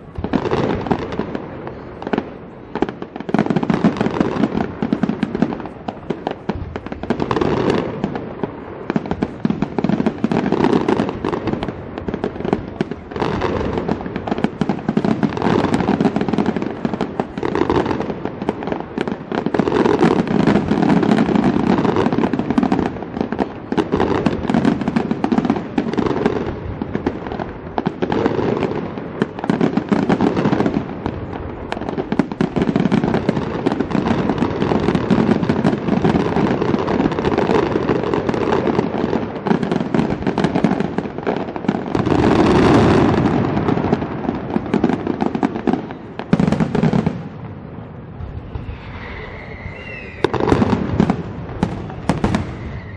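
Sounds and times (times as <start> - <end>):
fireworks bursting and crackling: 0.0 - 52.9.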